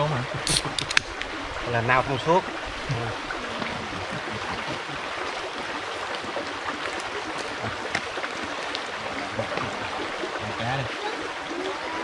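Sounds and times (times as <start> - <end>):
stream babbling over rocks: 0.0 - 12.0.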